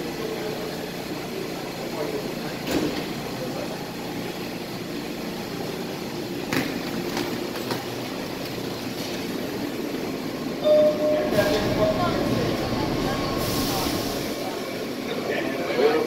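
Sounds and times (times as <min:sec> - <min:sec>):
subway car hum: 0:00.0 - 0:16.0.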